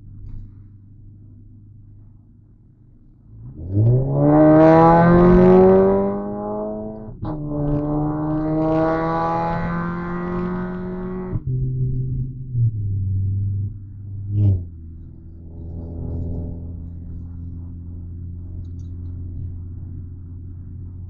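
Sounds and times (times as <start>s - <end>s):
car engine accelerating hard: 3.3s - 21.0s.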